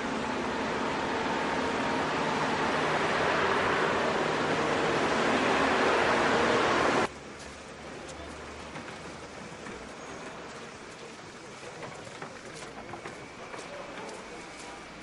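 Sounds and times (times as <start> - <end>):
road traffic rush: 0.0 - 15.0.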